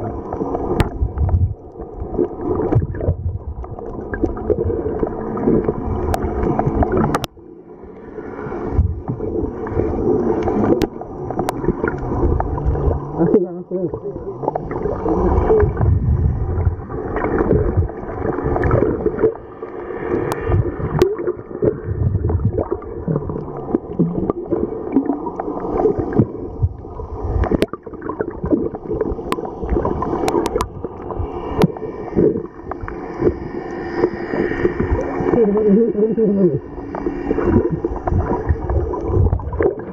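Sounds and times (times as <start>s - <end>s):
low steady hum: 0.0s - 39.9s
underwater gurgling and sloshing: 0.0s - 39.9s.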